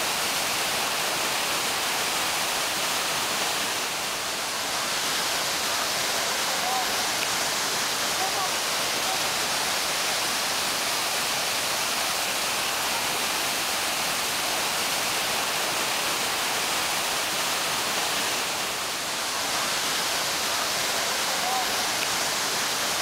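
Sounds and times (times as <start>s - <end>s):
waterfall thundering: 0.0s - 23.0s.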